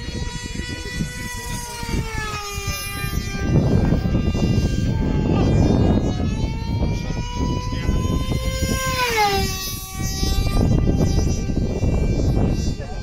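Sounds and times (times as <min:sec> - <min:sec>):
model plane motor whining: 0:00.0 - 0:13.0
wind on microphone: 0:00.0 - 0:13.0.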